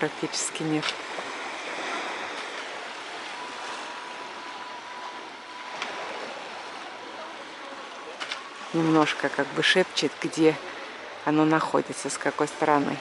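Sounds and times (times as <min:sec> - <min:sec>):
small waves on pebble beach: 0:00.0 - 0:13.0.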